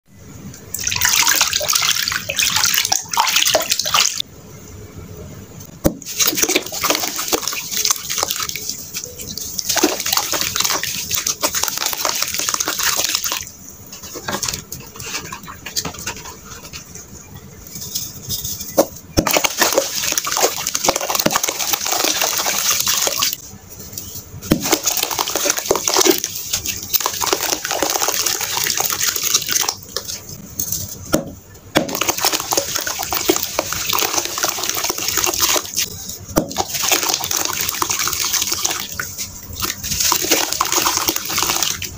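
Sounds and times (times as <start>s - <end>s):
water splashing and sloshing: 0.7s - 4.2s, 5.8s - 17.1s, 17.8s - 23.4s, 24.4s - 41.9s.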